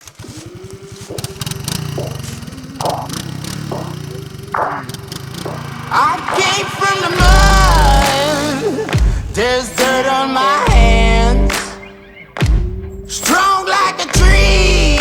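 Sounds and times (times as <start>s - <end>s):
atv engine running: 0.0s - 11.6s, 13.2s - 15.0s.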